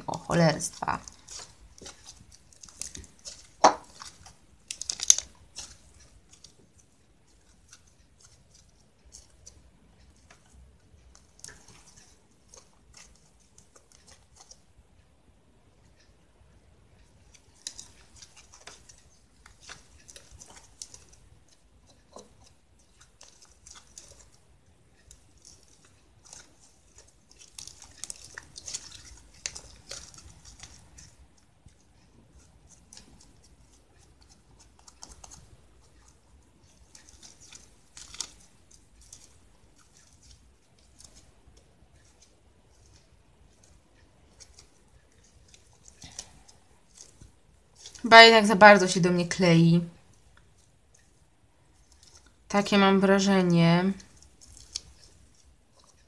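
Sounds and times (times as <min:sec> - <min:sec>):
slime squelching: 0:00.0 - 0:15.0, 0:16.9 - 0:56.0.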